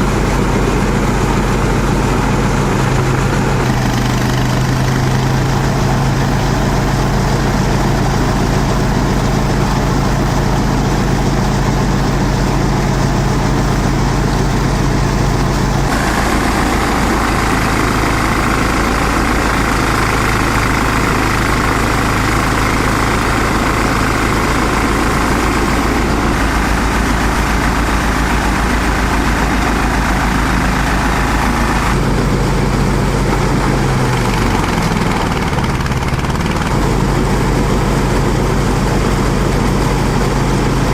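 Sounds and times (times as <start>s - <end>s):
rushing mid-pitched noise: 0.0s - 40.9s
shredder engine hum: 0.0s - 40.9s.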